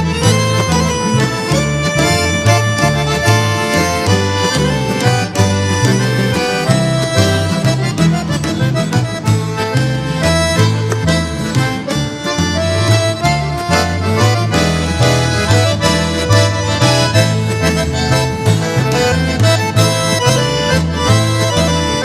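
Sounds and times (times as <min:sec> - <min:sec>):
accordion melody: 0:00.0 - 0:22.0
bouncing bass line: 0:00.0 - 0:22.0.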